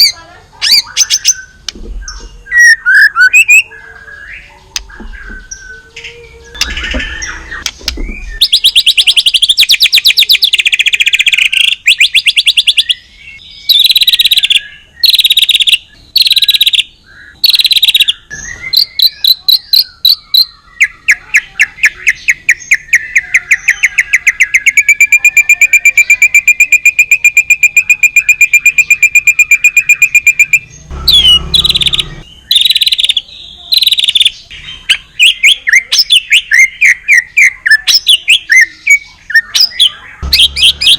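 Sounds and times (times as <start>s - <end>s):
bird singing trilled phrases: 0.0s - 40.9s.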